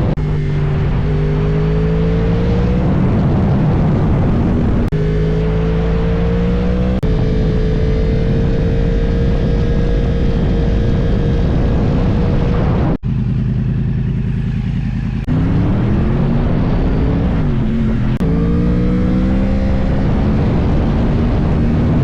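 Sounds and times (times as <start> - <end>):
wind rush: 0.0 - 13.4, 15.2 - 22.0
motorcycle engine accelerating: 0.0 - 22.0.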